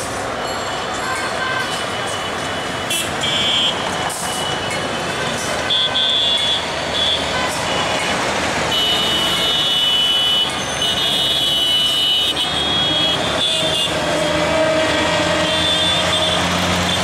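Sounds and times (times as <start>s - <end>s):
train rumbling: 0.0s - 9.4s, 12.4s - 17.0s.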